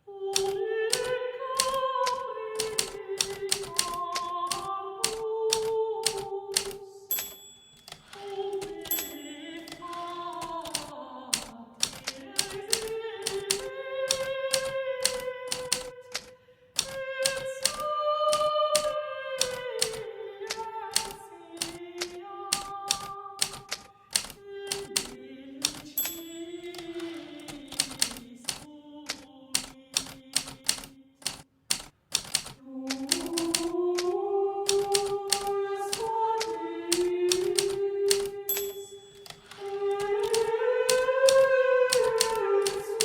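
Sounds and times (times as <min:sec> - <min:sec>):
typewriter keys striking: 0:00.4 - 0:34.1, 0:34.7 - 0:43.0.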